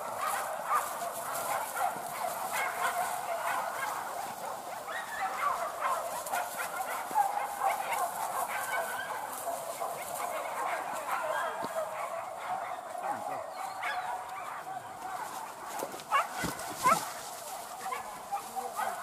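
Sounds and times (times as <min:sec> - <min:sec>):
dogs barking and yelping: 0:00.0 - 0:19.0
loud dog yelps: 0:00.1 - 0:15.3, 0:16.0 - 0:17.2.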